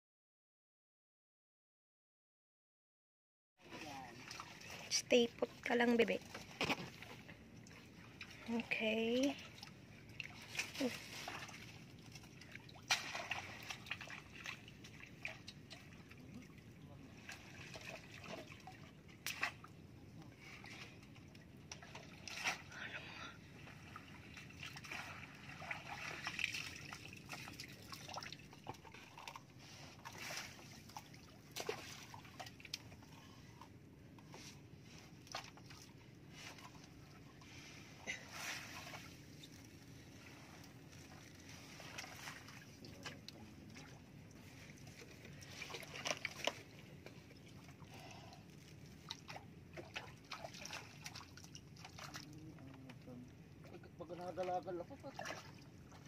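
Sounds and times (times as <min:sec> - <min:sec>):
small splashes: 0:03.6 - 0:05.0, 0:06.2 - 0:33.4, 0:35.2 - 0:53.2, 0:54.4 - 0:56.0
water trickling and sloshing: 0:03.6 - 0:56.0.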